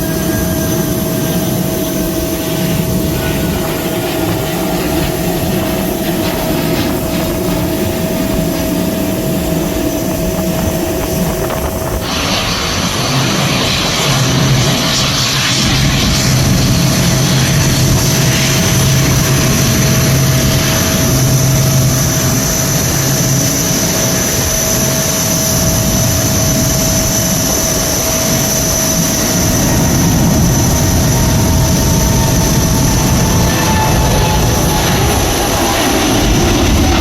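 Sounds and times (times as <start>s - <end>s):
airplane engines at takeoff power: 0.0s - 37.0s.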